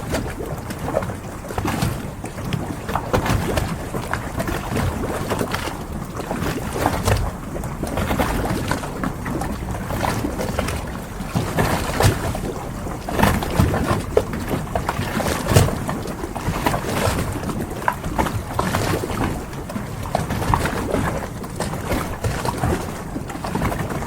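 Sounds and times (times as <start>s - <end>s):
boats knocking and creaking: 0.0s - 24.0s
rush of wind and water: 0.0s - 24.0s
water lapping against boats: 0.0s - 24.0s.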